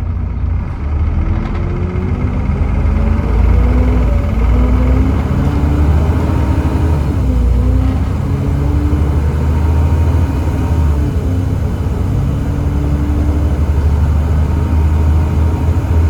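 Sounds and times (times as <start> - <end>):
bus diesel engine under load: 0.0 - 16.0.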